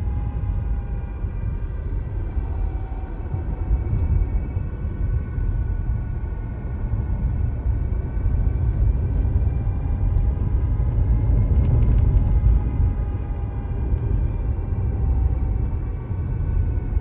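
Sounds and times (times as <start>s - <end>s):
car road rumble: 0.0s - 17.0s
high-pitched whine: 0.0s - 17.0s.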